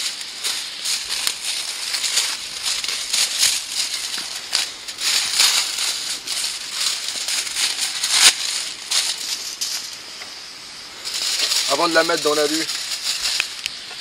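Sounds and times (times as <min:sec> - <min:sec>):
aluminium foil crinkling: 0:00.0 - 0:14.0.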